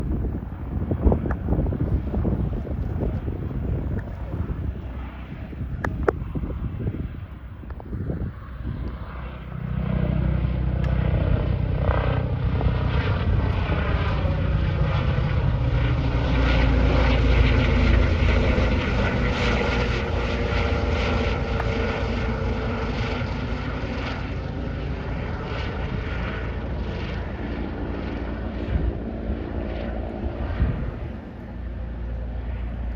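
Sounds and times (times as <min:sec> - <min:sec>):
helicopter flying overhead: 0:00.0 - 0:32.9.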